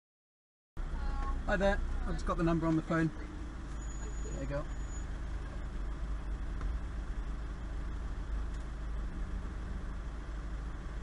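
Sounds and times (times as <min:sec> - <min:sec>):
engine idling: 0:00.8 - 0:11.0.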